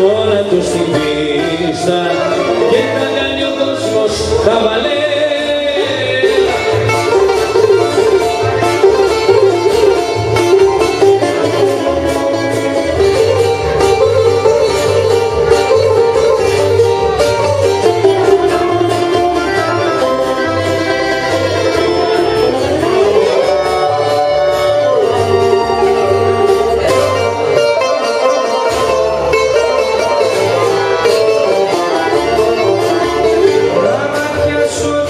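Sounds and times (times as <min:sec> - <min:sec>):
accordion: 0:00.0 - 0:35.0
acoustic guitar: 0:00.0 - 0:35.0
bouzouki: 0:00.0 - 0:35.0.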